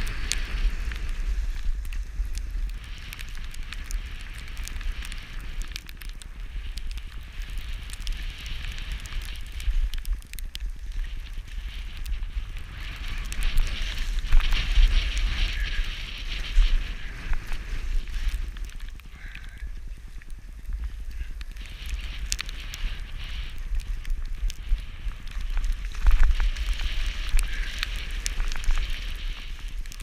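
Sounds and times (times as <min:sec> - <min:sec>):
skis hissing over snow: 0:00.0 - 0:05.8, 0:10.7 - 0:30.0
wind rumbling on microphone: 0:00.0 - 0:30.0.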